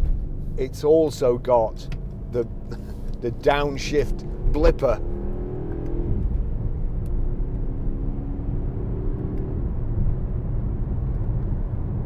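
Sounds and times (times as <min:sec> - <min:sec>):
car engine rumble inside cabin: 0:00.0 - 0:12.0
road noise: 0:00.0 - 0:12.0.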